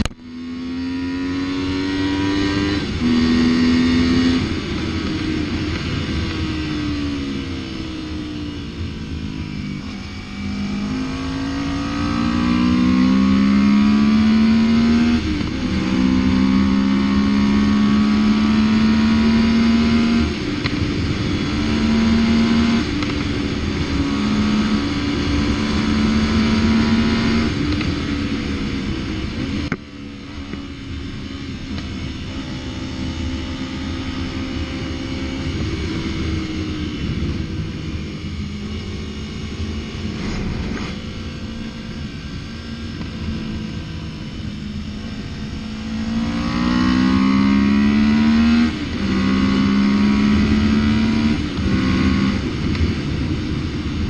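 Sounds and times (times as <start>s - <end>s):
motorcycle engine under way: 0.0s - 54.0s.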